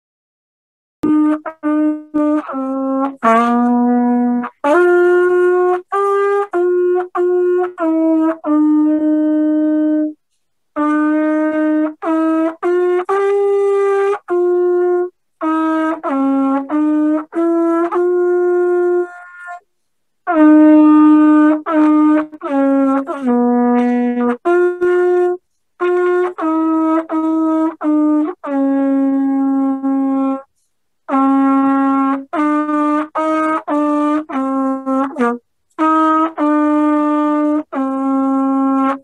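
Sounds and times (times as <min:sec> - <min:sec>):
cornet playing a simple melody: 0:01.0 - 0:39.0.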